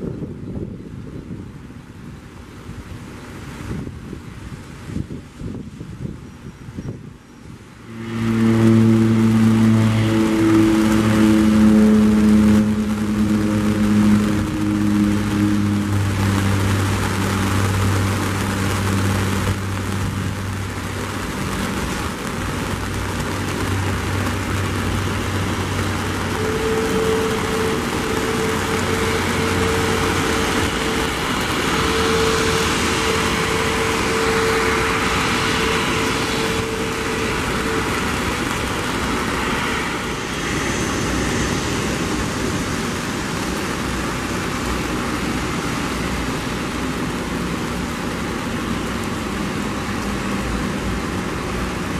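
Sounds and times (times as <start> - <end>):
jet engines rumbling and whining: 7.0 - 51.9.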